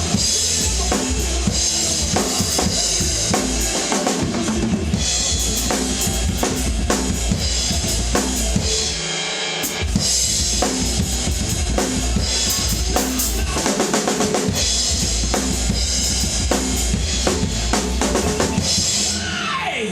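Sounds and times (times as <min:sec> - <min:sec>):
hard rock music: 0:00.0 - 0:19.9
rock drum kit playing: 0:00.0 - 0:19.9.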